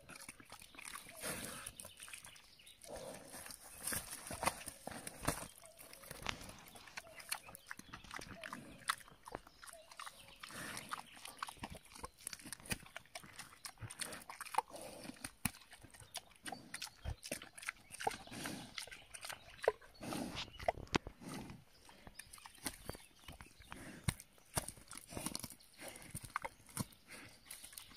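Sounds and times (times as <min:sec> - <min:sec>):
hog chewing and crunching: 0:00.0 - 0:27.9.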